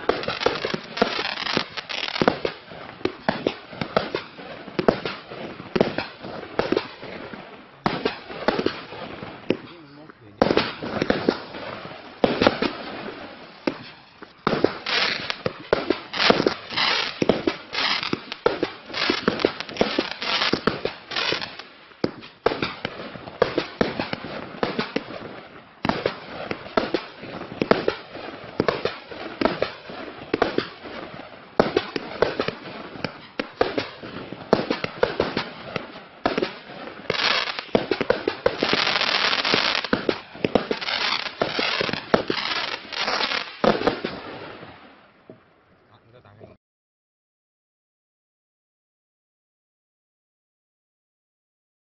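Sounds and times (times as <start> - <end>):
fireworks cake firing shots: 0.0 - 44.3
crackling firework stars: 0.0 - 46.3.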